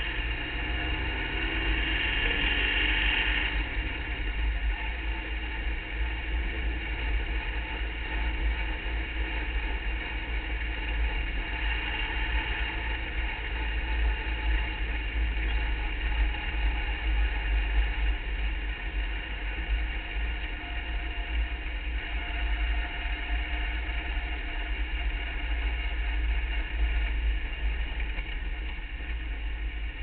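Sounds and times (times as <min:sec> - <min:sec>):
race car engine: 0:00.0 - 0:30.0
road and wind rumble: 0:00.0 - 0:30.0.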